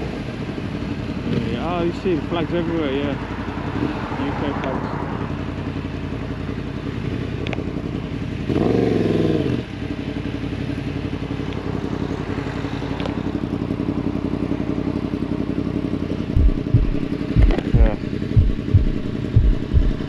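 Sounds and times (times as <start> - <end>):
motorcycle engine running: 0.0 - 20.0
motorcycle throttle rev: 0.0 - 20.0.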